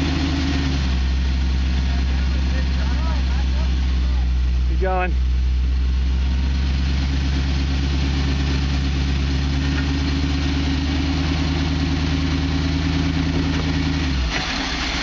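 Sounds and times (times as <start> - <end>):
off-road vehicle engine low revs: 0.0 - 15.0.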